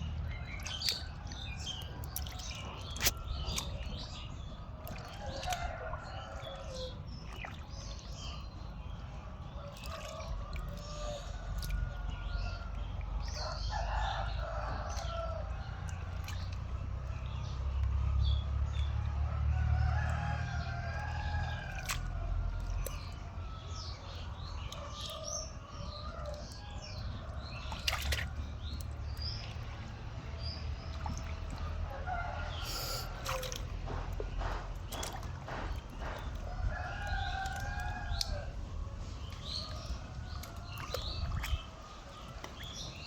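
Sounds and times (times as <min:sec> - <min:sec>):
small birds chirping: 0:00.0 - 0:19.9, 0:21.5 - 0:43.0.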